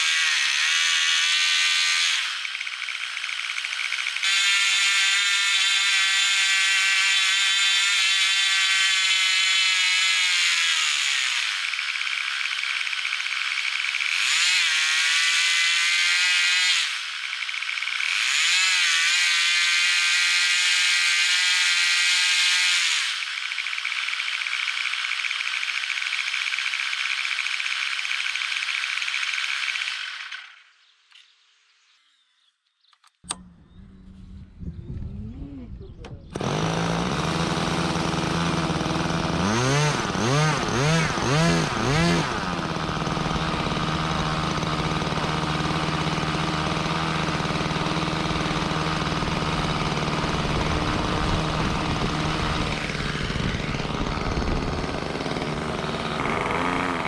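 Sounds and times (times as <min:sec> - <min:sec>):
model engine running at high revs: 0:00.0 - 0:30.7, 0:36.2 - 0:57.0.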